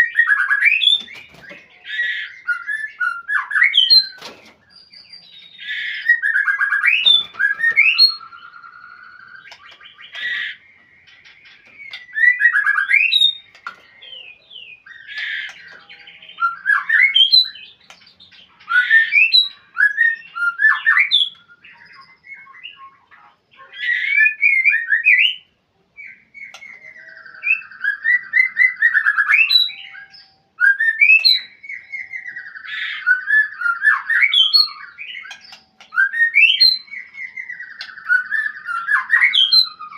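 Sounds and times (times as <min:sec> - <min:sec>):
bird singing rich whistles: 0:00.0 - 0:17.9, 0:18.6 - 0:23.1, 0:23.7 - 0:39.9.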